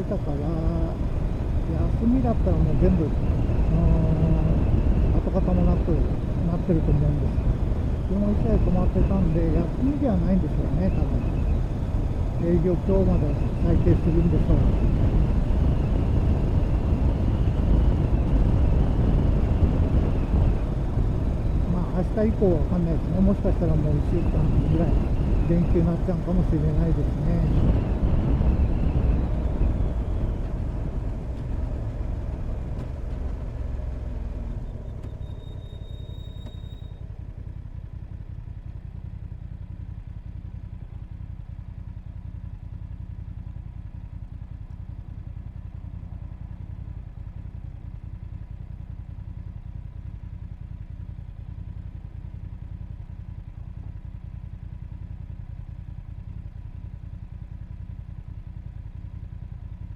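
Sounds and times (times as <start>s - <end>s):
motorcycle engine: 0.0s - 59.9s
wind: 0.0s - 59.9s.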